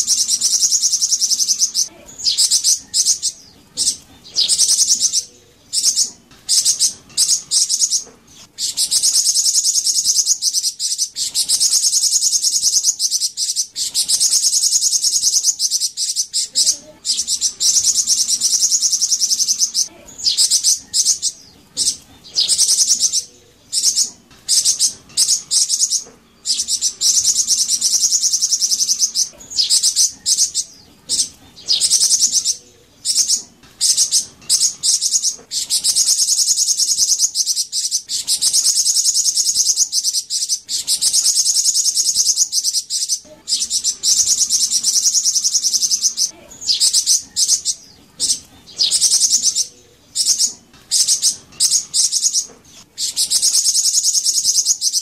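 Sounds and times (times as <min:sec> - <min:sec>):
bird trilling chatter: 0:00.0 - 0:55.0.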